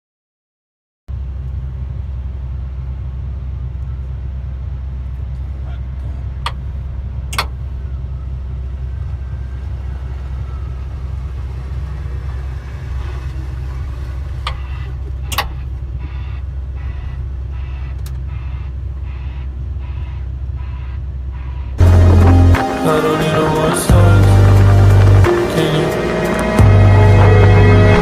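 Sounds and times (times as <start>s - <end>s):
dump truck engine rumbling: 1.1s - 28.0s.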